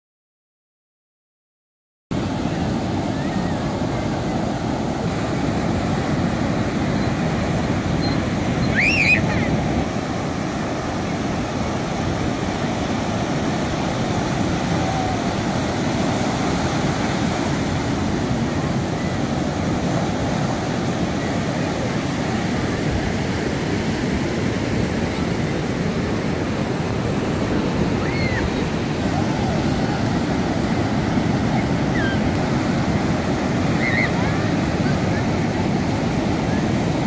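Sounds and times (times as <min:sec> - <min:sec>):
ocean surf breaking: 0:02.2 - 0:37.0.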